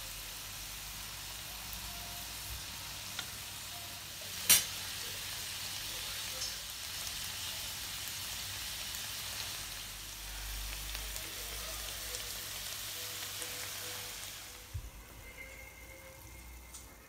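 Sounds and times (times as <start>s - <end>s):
shrimp sizzling in oil: 0.0s - 17.0s.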